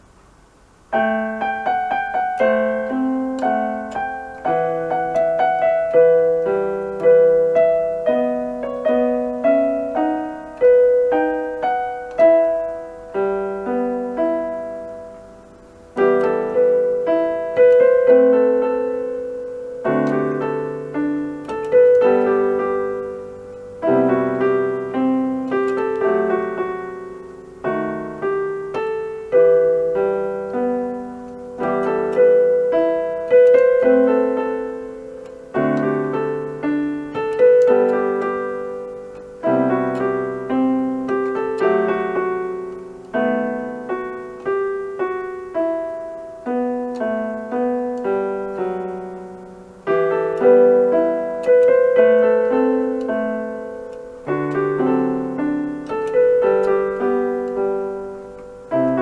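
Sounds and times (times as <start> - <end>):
electronic keyboard piano melody: 0.0 - 59.0.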